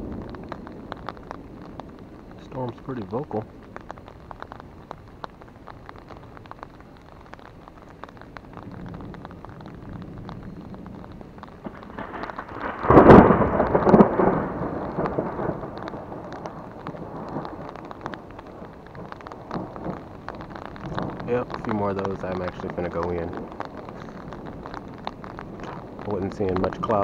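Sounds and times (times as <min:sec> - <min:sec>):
rain ticking on an umbrella: 0:00.0 - 0:27.0
thunder rumbling and cracking: 0:00.0 - 0:27.0.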